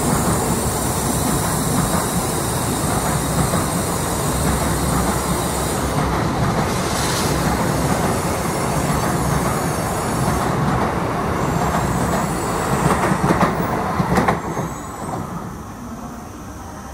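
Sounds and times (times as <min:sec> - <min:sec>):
rail clacks: 0:00.0 - 0:15.2
train wheels rumbling: 0:00.0 - 0:15.5.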